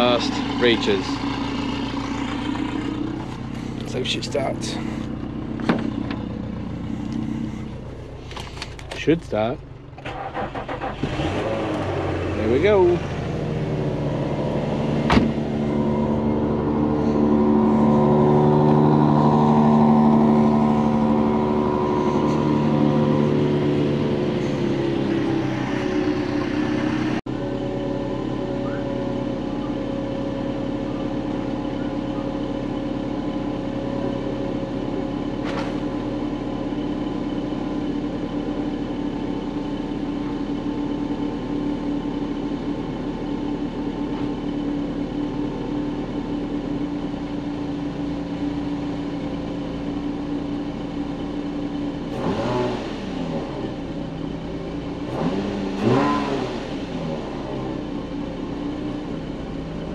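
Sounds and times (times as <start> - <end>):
car engine revving: 0.0 - 41.6, 49.5 - 59.9
car engine idling: 0.0 - 59.9.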